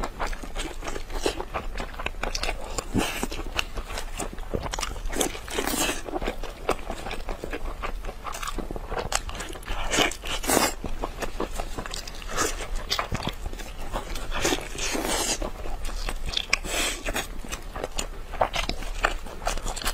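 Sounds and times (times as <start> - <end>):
biting and chewing meat: 0.0 - 19.9.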